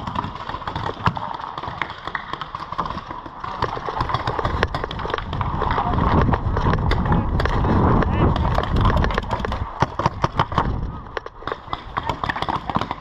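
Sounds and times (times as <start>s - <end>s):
paintball markers popping: 0.0s - 13.0s.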